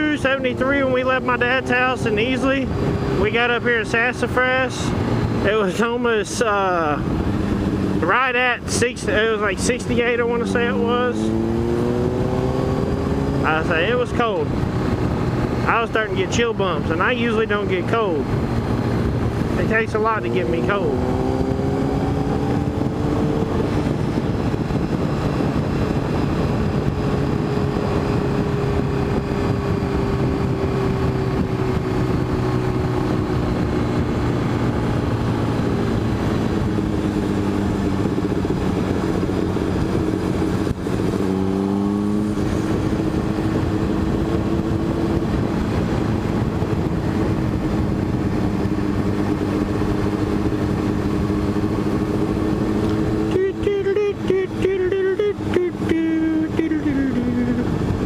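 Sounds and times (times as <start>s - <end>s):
motorcycle engine running: 0.0s - 58.0s
wind rushing past microphone: 0.0s - 58.0s.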